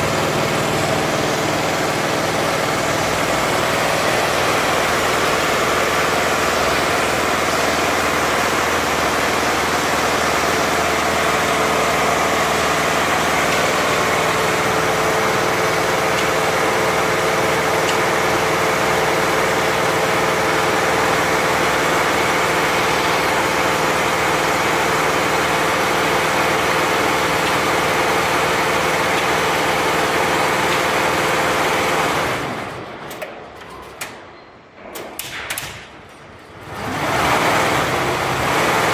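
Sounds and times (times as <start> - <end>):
embroidery machine stitching: 0.0 - 32.9.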